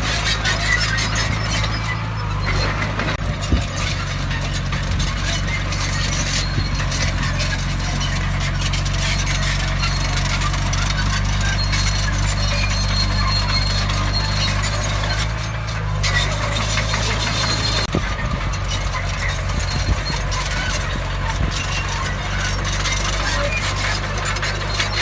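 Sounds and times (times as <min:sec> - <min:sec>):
bulldozer diesel engine running: 0:00.0 - 0:25.0
clanking and rattling: 0:00.0 - 0:25.0.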